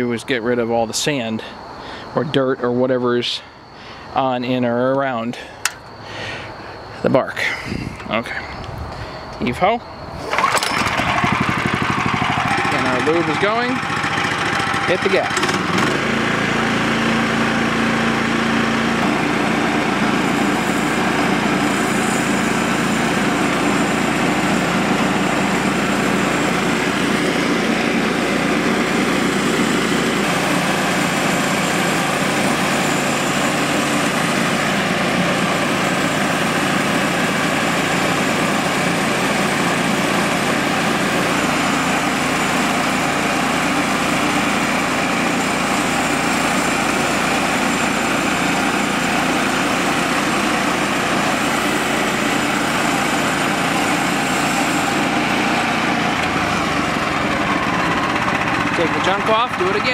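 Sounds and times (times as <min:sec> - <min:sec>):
band saw cutting log: 0:10.2 - 0:59.9
gasoline engine running: 0:10.2 - 0:59.9.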